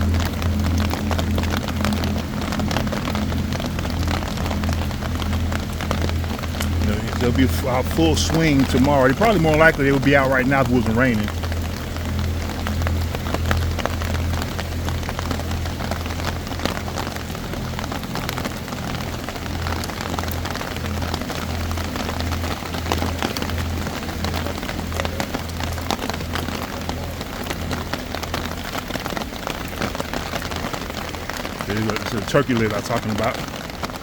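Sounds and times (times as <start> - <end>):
low throbbing hum: 0.0 - 31.6
rain on an umbrella: 0.0 - 34.0.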